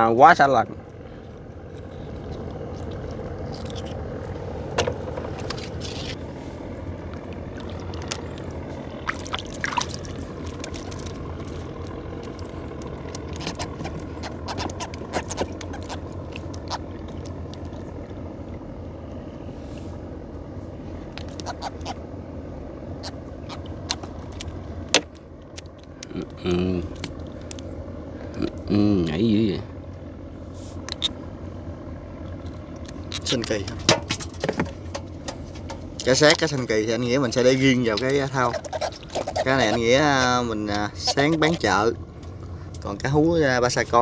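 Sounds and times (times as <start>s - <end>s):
small engine running: 0.7s - 44.0s.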